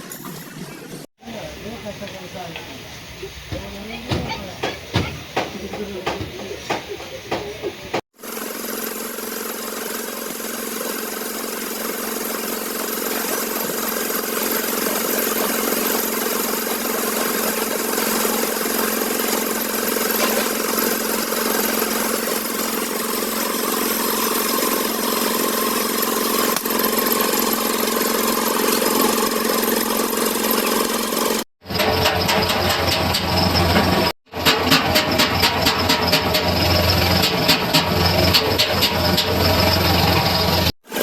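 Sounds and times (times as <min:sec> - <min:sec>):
motor running steadily: 0:01.2 - 0:32.0, 0:33.2 - 0:41.0.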